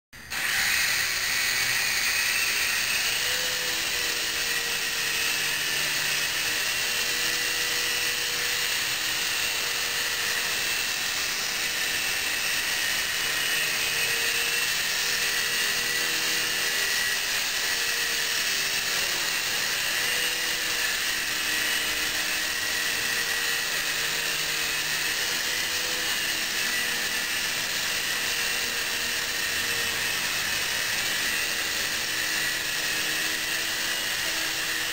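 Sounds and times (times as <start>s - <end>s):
toy helicopter motor whine: 0.2s - 34.9s.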